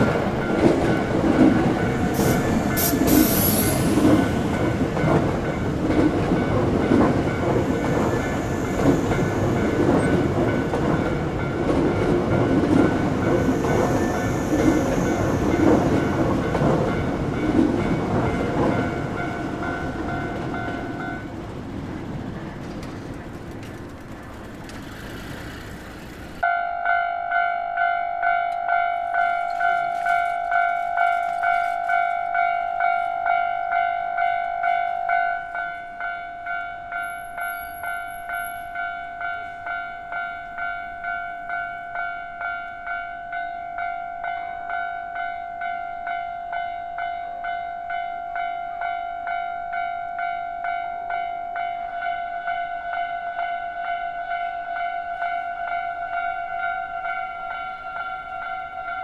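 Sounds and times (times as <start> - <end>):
level-crossing warning bell dinging: 0.0 - 22.3, 24.9 - 59.0
rushing train-like noise: 0.0 - 59.0.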